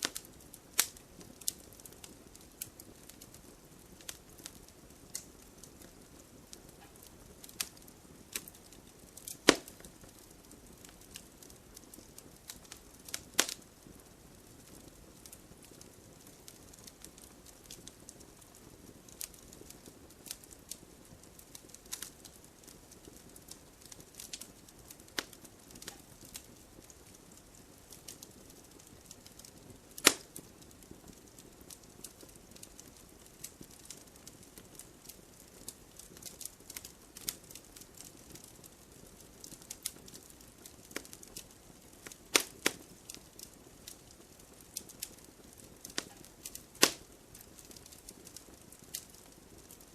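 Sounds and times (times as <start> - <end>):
campfire crackling and popping: 0.0 - 49.9
sharp fire snaps: 0.0 - 49.9.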